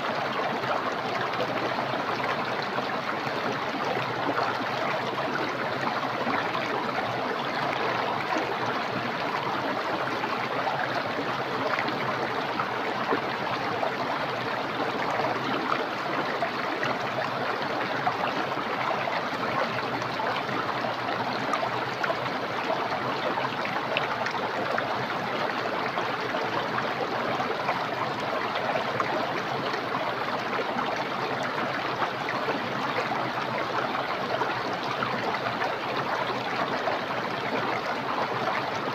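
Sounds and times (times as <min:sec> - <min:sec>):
fast-flowing stream: 0:00.0 - 0:38.9.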